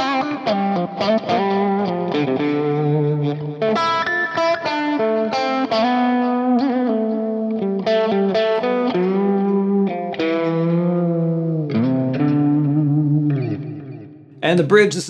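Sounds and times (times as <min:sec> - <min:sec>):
electric guitar melody: 0:00.0 - 0:14.4.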